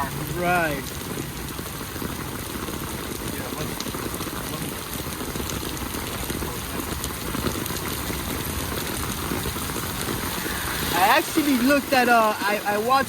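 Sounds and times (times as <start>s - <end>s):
rain on a hard surface: 0.0s - 13.0s
raindrop ticks: 0.0s - 13.0s.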